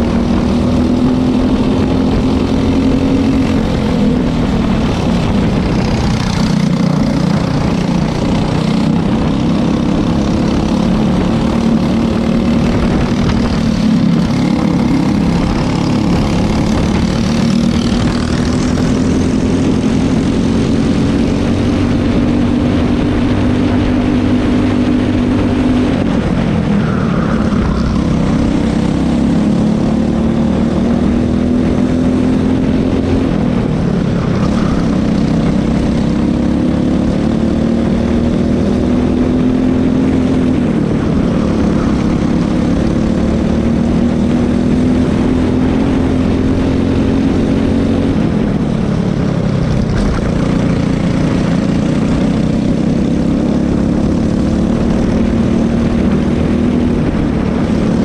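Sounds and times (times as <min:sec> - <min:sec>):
kart engine at racing speed: 0:00.0 - 0:58.0
wind and tyres rushing: 0:00.0 - 0:58.0.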